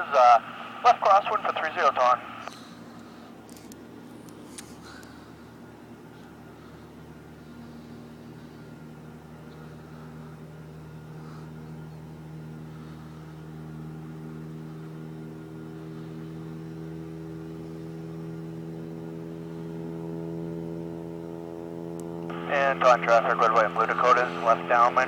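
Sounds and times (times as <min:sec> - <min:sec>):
piston aircraft engines droning: 0:00.0 - 0:25.0.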